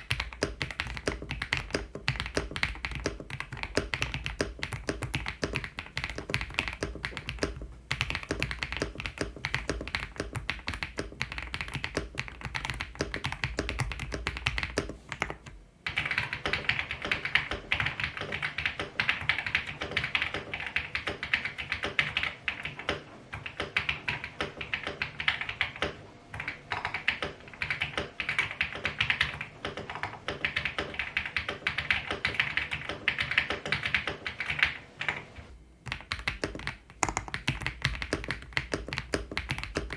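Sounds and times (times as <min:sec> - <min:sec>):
mechanical keyboard typing: 0:00.0 - 0:34.8, 0:35.8 - 0:39.9.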